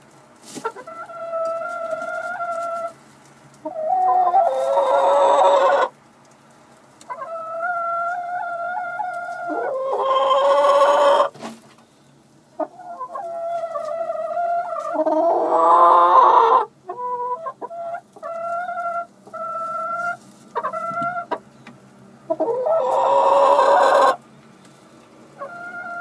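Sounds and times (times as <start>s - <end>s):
hens clucking and calling: 0.6s - 3.0s, 3.6s - 6.0s, 7.0s - 11.5s, 12.5s - 21.5s, 22.2s - 24.2s, 25.3s - 26.0s.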